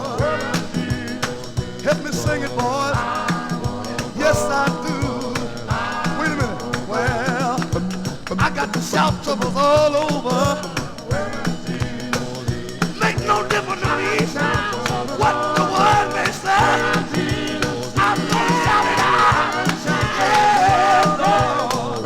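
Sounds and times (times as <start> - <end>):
backing instruments: 0.0 - 22.0
male voices singing gospel: 0.0 - 22.0
rattle percussion beat: 0.0 - 22.0.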